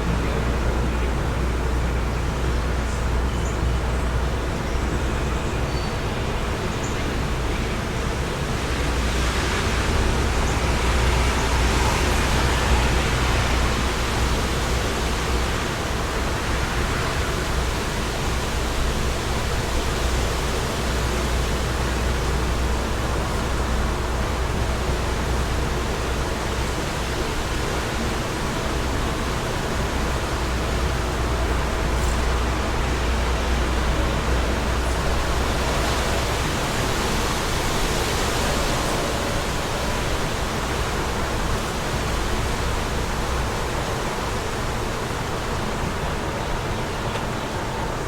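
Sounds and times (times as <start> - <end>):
wind buffeting microphone: 0.0 - 48.0
wind blowing: 6.2 - 48.0.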